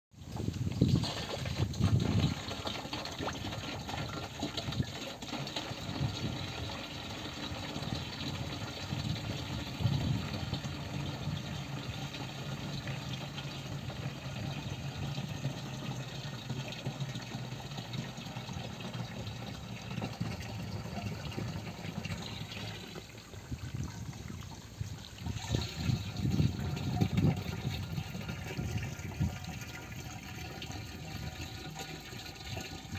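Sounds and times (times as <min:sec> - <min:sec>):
water gushing from hose into can: 0:00.2 - 0:32.9.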